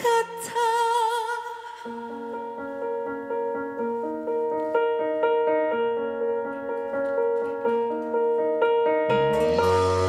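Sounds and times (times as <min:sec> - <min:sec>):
piano ballad accompaniment: 0:01.8 - 0:10.0.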